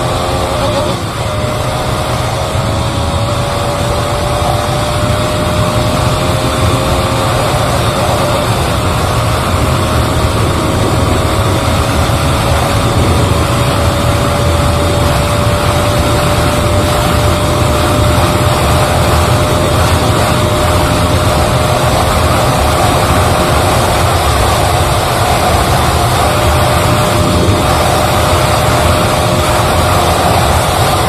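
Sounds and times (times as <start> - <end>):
motorcycle engine whining at high revs: 0.0 - 31.0
wind rushing on microphone: 0.0 - 31.0.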